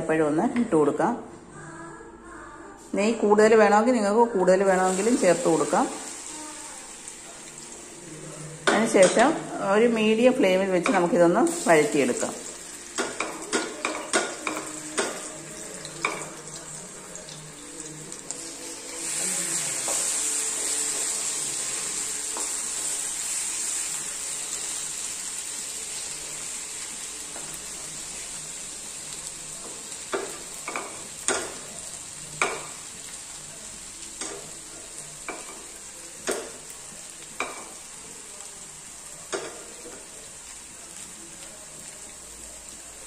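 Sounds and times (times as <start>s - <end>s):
plantain slices sizzling in a pan: 4.3s - 43.0s.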